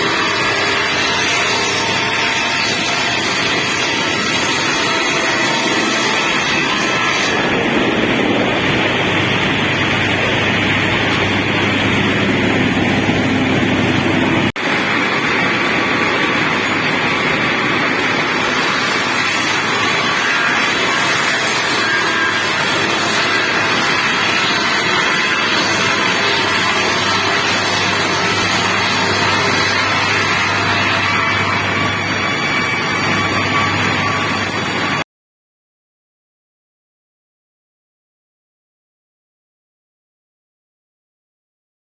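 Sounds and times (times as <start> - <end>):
circular saws and motors running: 0.0 - 35.0.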